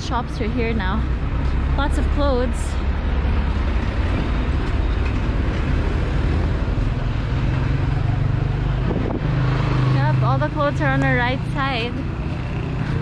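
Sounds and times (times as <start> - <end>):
low engine hum: 0.0 - 13.0
vehicle engines running: 0.0 - 13.0.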